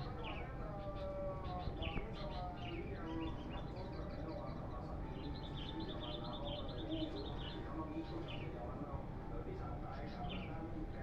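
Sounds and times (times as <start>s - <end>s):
birds chirping and singing: 0.0s - 8.7s, 9.9s - 10.7s.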